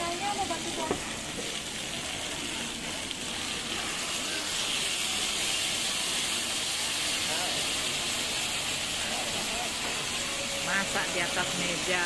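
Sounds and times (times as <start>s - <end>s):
steak sizzling on hot plate: 0.0s - 12.0s.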